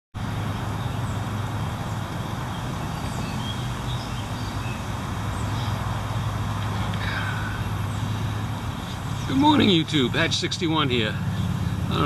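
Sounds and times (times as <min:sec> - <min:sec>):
low outdoor rumble: 0:00.2 - 0:12.0.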